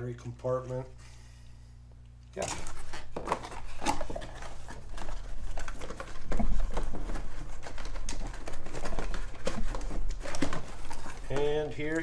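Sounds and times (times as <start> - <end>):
packaging rustling: 2.4 - 12.0.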